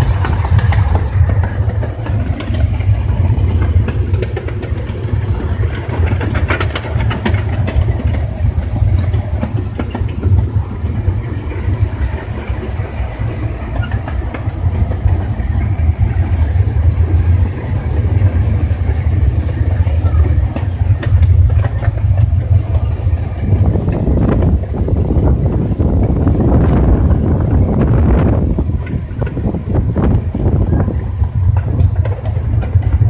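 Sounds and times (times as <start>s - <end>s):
light clatter in cab: 0.0s - 26.2s, 28.3s - 33.0s
steam locomotive cab rumble: 0.0s - 33.0s.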